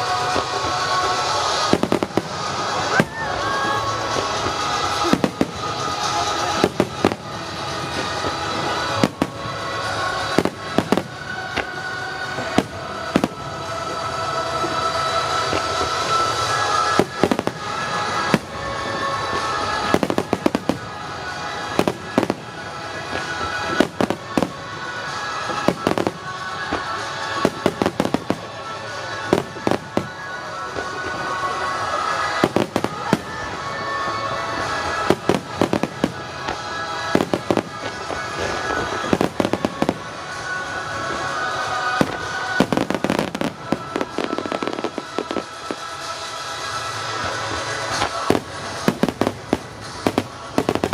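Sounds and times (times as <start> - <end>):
fireworks bursts and bangs: 0.0 - 50.9
music playing: 0.0 - 50.9.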